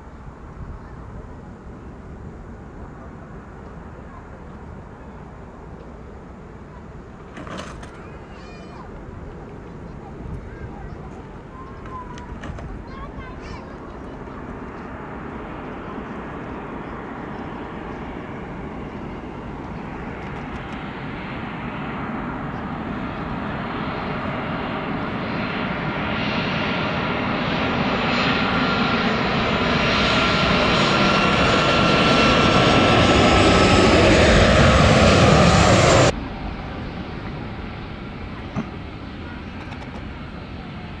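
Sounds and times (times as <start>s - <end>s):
jet engines rumbling and whining: 0.0s - 41.0s.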